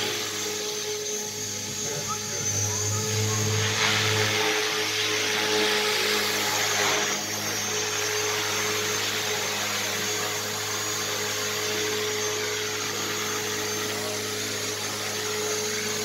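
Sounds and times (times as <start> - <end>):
model helicopter motor and rotor hum: 0.0 - 16.0.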